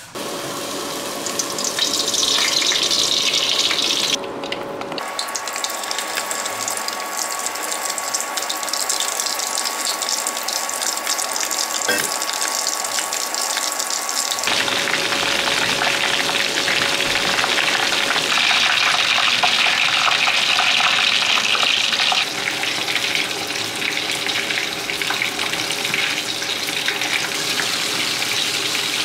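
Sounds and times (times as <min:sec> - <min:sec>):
food frying in hot oil: 0:00.0 - 0:29.0.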